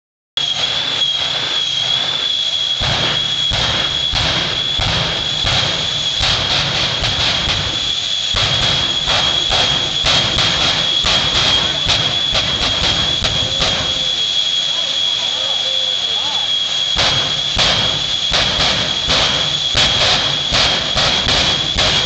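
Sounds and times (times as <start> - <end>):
afterburner surges: 0.4 - 22.0
heavy low rumble: 0.4 - 22.0
jet turbine engine whine: 0.4 - 22.0.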